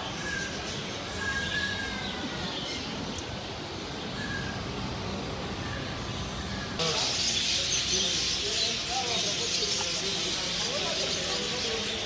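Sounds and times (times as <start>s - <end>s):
caged birds calling: 0.0s - 12.0s.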